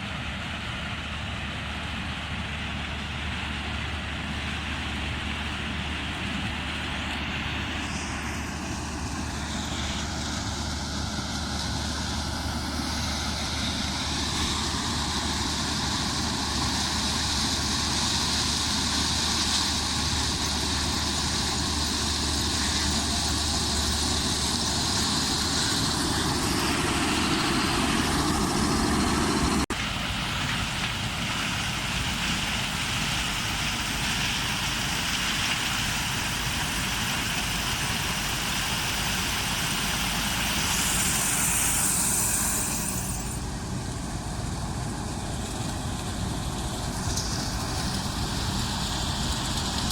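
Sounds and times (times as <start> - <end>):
combine harvester engine drone: 0.0 - 49.9
threshing machinery hiss: 6.9 - 49.9.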